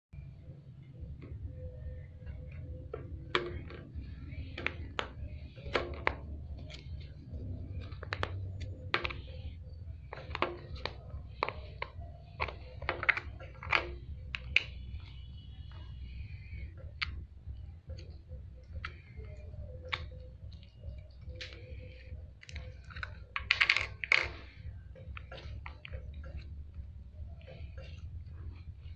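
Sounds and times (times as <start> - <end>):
low steady hum: 0.1 - 28.9.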